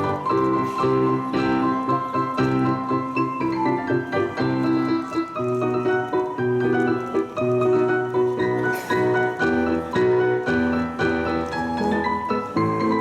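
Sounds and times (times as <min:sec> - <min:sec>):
piano duet: 0:00.0 - 0:13.0.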